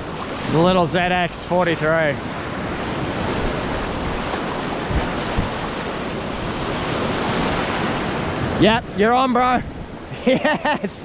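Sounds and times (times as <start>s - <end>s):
wind on microphone: 0.0s - 10.2s
surf breaking on beach: 0.0s - 10.8s.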